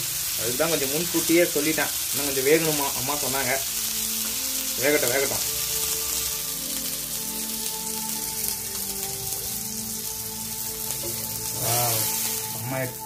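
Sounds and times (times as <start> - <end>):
fish sizzling in oil: 0.0 - 13.0
background music with held notes: 0.9 - 13.0.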